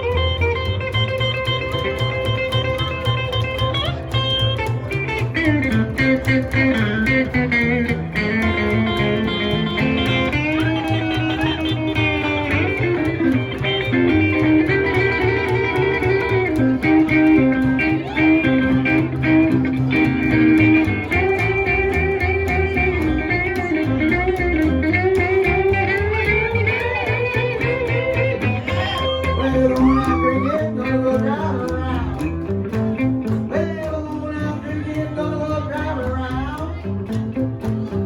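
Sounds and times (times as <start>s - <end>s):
honky-tonk band playing: 0.0s - 38.0s
lead guitar solo: 0.0s - 38.0s.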